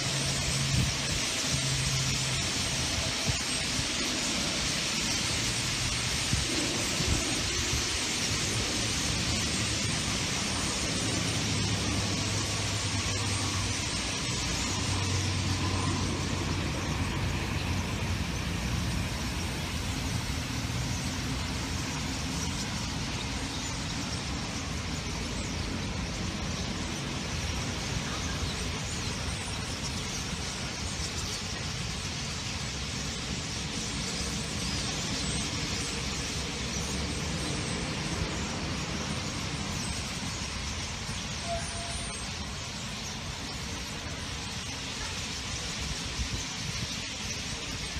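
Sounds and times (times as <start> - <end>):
city traffic hum: 0.0 - 47.9
starlings chirping: 0.0 - 47.9.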